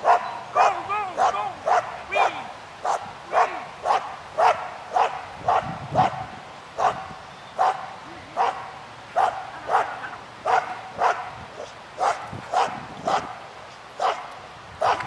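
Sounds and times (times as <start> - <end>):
dog barking: 0.0 - 8.6, 9.2 - 13.4, 14.0 - 15.0.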